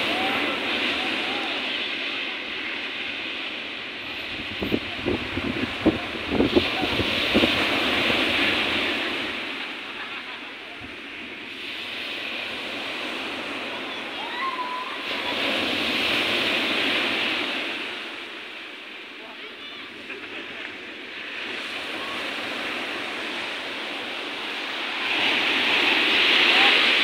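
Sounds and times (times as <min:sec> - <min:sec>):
surf washing up beach: 0:00.0 - 0:27.0.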